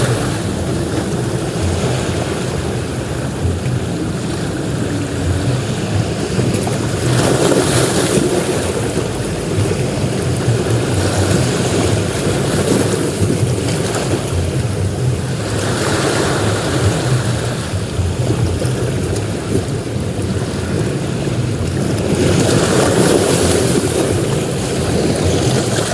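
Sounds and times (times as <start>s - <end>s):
ocean waves breaking on a beach: 0.0s - 25.9s.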